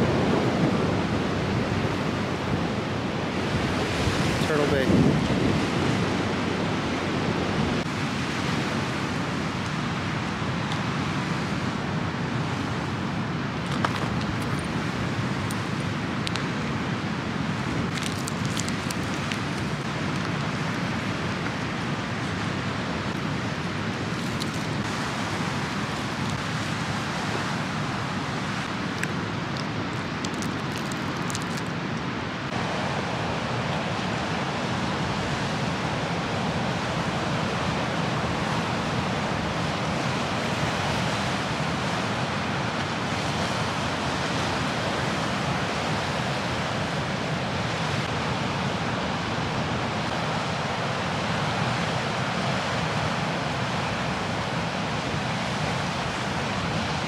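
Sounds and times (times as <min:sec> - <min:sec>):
ocean surf breaking: 0:00.0 - 0:57.0
wind noise on microphone: 0:00.0 - 0:57.0.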